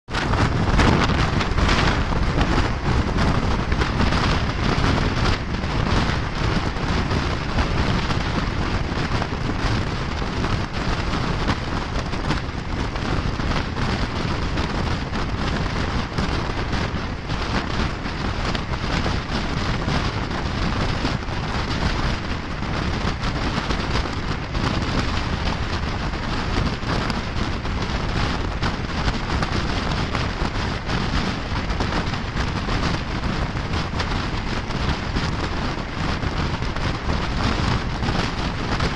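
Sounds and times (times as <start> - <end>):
train running rumble: 0.0 - 38.9
wind buffeting microphone: 0.0 - 38.9.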